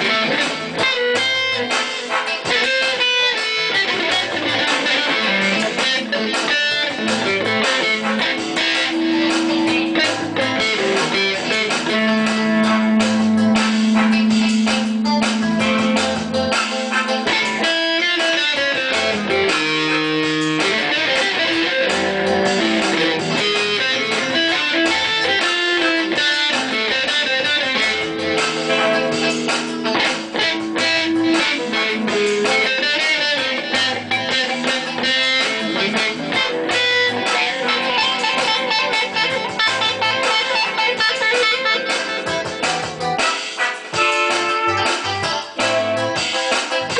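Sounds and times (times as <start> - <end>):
electric guitar music: 0.0 - 46.9.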